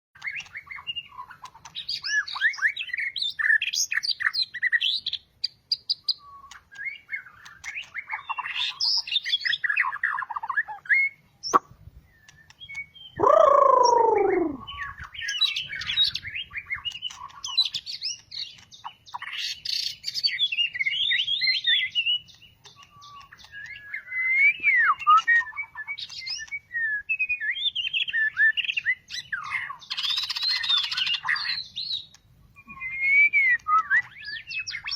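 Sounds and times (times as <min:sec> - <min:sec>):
bird singing whistles and trills: 0:00.2 - 0:34.9.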